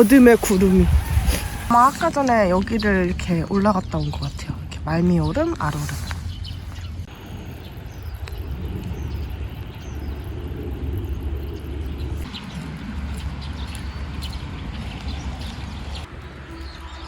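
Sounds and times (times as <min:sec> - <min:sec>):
steady low rumble: 0:00.0 - 0:16.7.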